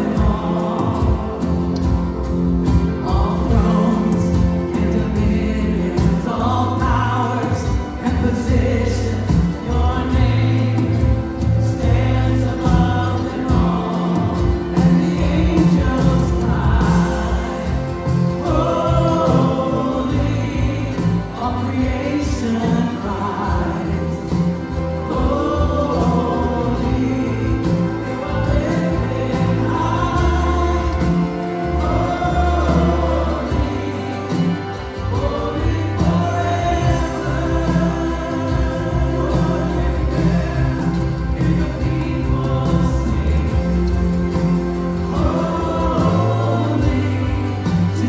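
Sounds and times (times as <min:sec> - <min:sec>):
gospel choir singing: 0:00.0 - 0:48.0
instrumental accompaniment: 0:00.0 - 0:48.0
steady bass line: 0:00.0 - 0:48.0.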